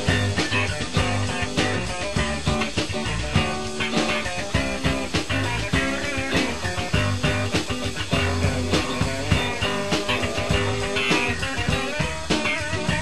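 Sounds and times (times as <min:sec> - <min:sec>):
rock song with guitar and drums: 0:00.0 - 0:13.0.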